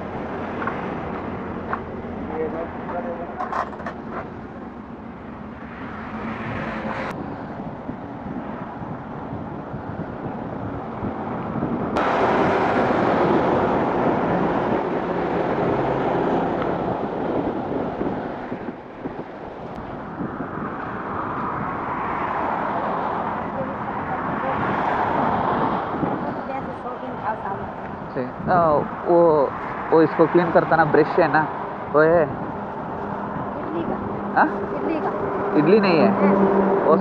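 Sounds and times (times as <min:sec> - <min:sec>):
passing vehicles rushing: 0:00.0 - 0:37.0.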